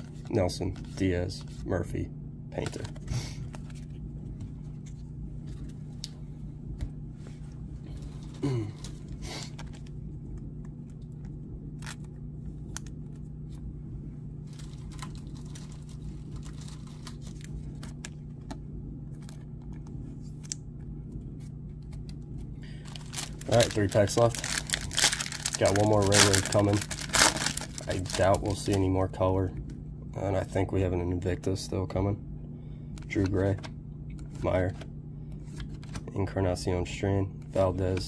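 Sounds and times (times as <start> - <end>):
low hum: 0.0 - 37.8.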